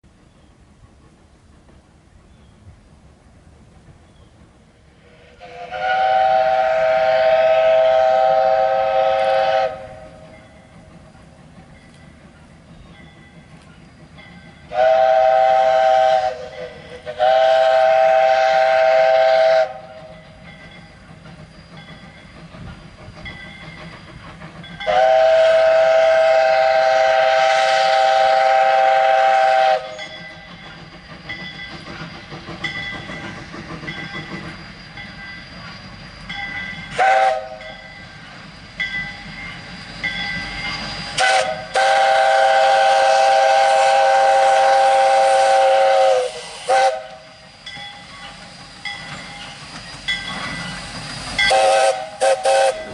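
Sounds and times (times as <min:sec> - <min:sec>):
train running noise: 0:00.0 - 0:52.9
steam locomotive chime whistle: 0:04.9 - 0:52.9.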